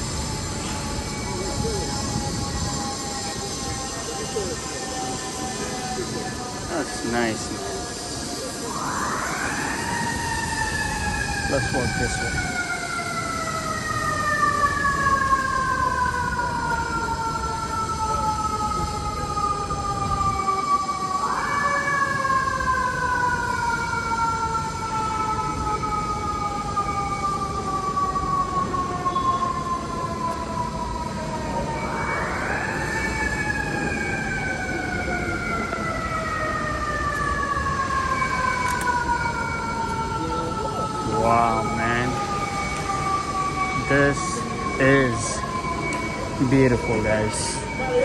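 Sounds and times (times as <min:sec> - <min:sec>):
city street noise: 0:00.0 - 0:48.0
emergency vehicle siren wailing: 0:00.0 - 0:48.0.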